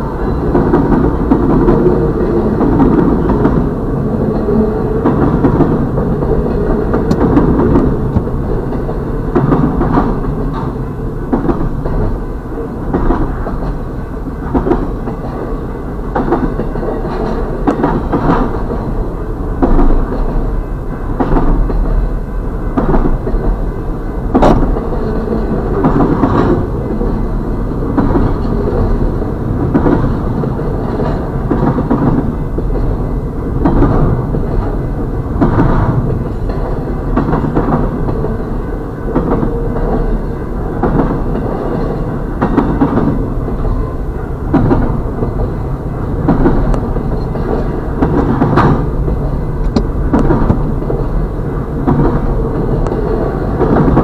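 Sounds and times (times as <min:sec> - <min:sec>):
freight train wheels rumbling: 0:00.0 - 0:54.0
wheels clacking over rail joints: 0:00.0 - 0:54.0.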